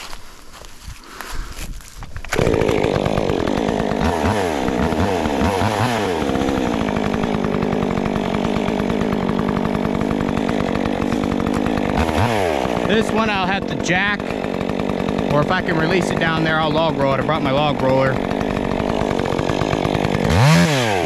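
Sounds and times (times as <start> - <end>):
chainsaw starting and revving: 1.2 - 21.0.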